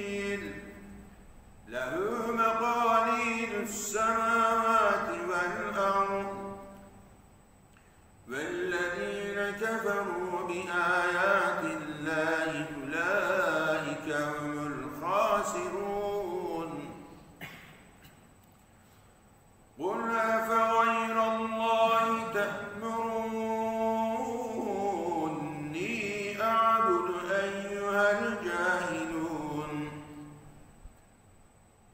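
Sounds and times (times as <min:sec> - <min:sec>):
man chanting melodically: 0:00.0 - 0:01.0, 0:01.7 - 0:06.9, 0:08.3 - 0:17.2, 0:19.8 - 0:30.4.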